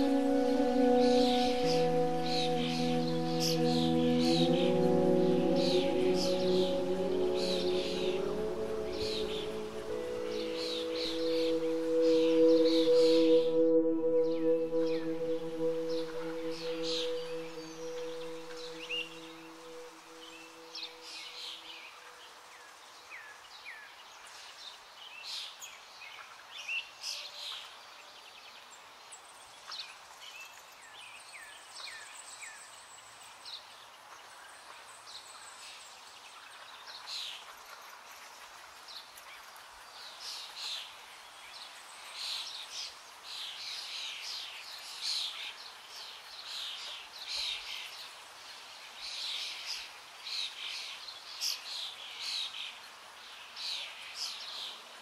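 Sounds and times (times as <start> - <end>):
faint background hiss: 0.0 - 55.0.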